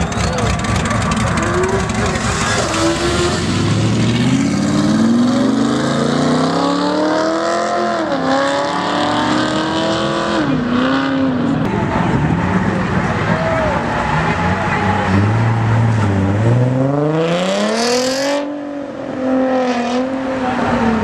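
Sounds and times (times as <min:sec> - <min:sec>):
car accelerating hard: 0:00.0 - 0:21.0.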